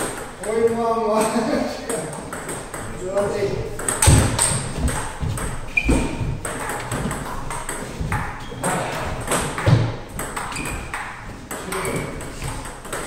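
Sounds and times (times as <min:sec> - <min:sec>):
table tennis ball pinging: 0:00.0 - 0:13.0.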